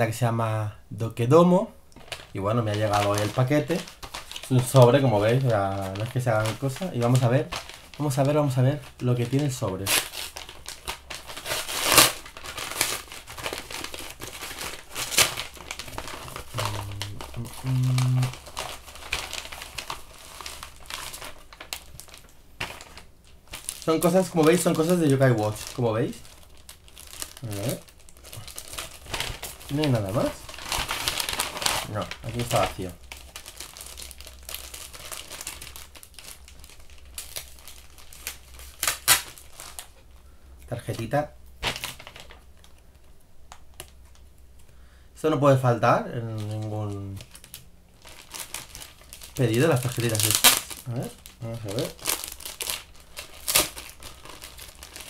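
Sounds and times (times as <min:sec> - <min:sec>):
paper envelope crinkling: 0:02.0 - 0:40.0, 0:40.9 - 0:42.8, 0:46.2 - 0:55.0.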